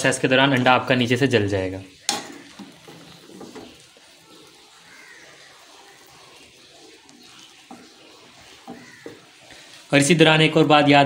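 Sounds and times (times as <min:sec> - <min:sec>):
omelette sizzling in a pan: 0:00.0 - 0:11.0.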